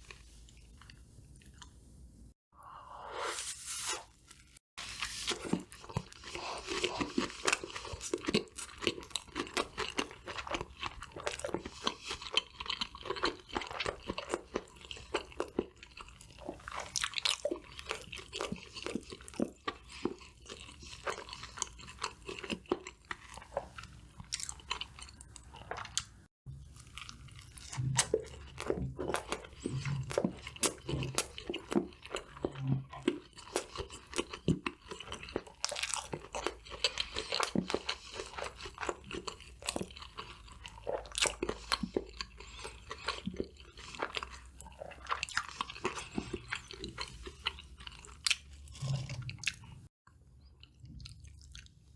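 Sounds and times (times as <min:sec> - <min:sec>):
crunching and chewing fried food: 0:04.3 - 0:51.9.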